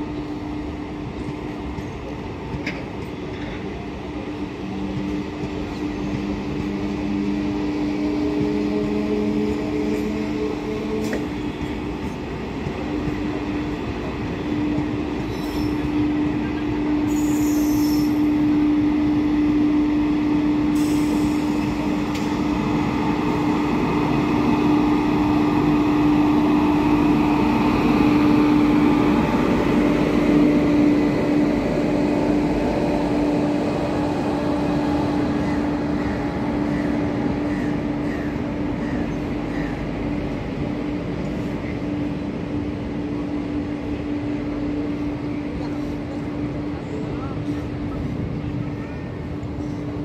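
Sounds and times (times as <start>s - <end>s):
electric train hum: 0.0s - 50.0s
wheels rumbling on rail: 0.0s - 50.0s.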